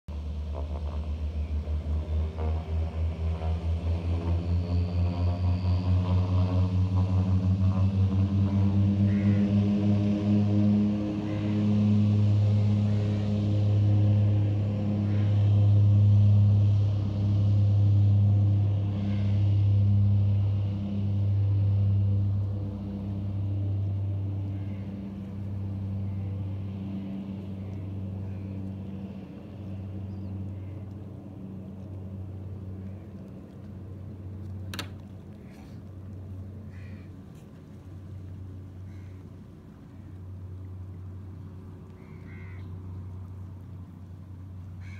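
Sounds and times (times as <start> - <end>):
turboprop plane propeller drone: 0.1 - 44.9.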